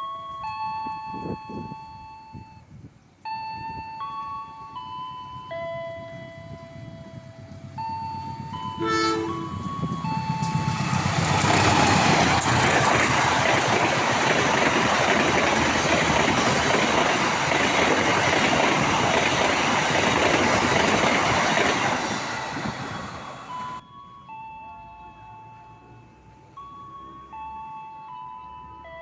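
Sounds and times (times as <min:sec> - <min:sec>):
train passing with wheels rumbling: 0:00.0 - 0:23.8.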